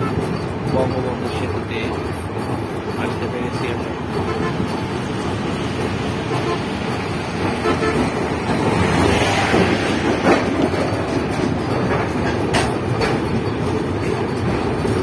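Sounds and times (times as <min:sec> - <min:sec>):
sharp clicks of train wheels: 0:00.0 - 0:15.0
train wheels rumbling on rails: 0:00.0 - 0:15.0.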